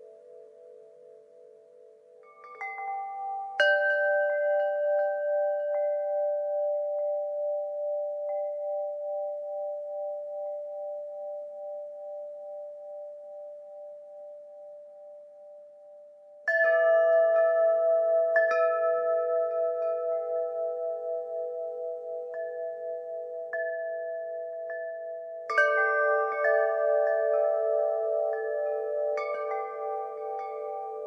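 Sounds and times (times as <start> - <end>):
wind chimes ringing: 0.0 - 13.0, 16.4 - 31.0.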